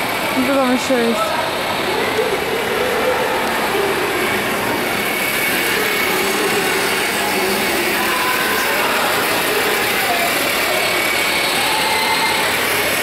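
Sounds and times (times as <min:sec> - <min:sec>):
shopping mall hum: 0:00.0 - 0:13.0.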